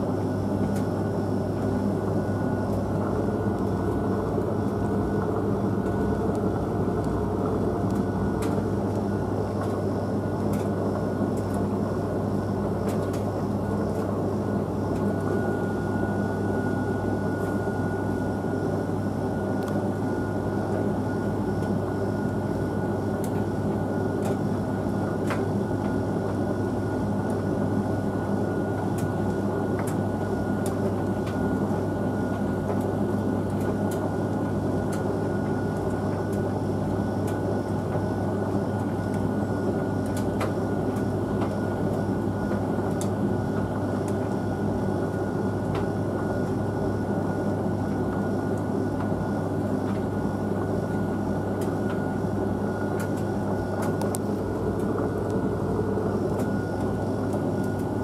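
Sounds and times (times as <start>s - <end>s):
tumble dryer humming: 0.0s - 58.0s.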